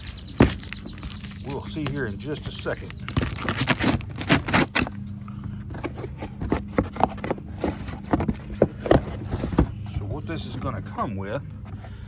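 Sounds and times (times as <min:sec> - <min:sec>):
packaging rustling and scraping: 0:00.0 - 0:10.9
steady low hum: 0:00.0 - 0:12.0.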